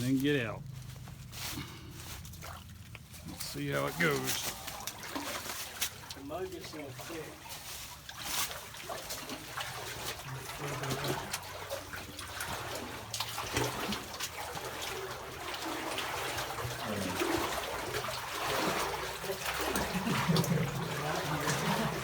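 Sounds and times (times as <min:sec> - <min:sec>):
splashing footsteps in water and mud: 0:00.0 - 0:22.0
running water: 0:01.3 - 0:22.0.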